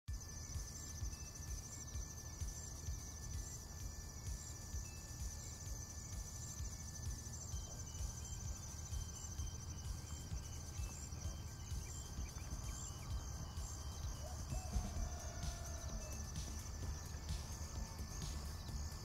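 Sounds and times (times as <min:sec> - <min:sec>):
bird notes: 0:00.1 - 0:19.0
high insect trill: 0:00.1 - 0:19.0.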